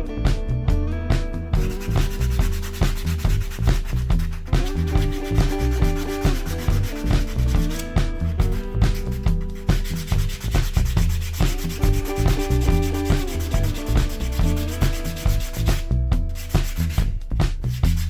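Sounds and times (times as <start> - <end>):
low rhythmic rumble: 0.0 - 18.0.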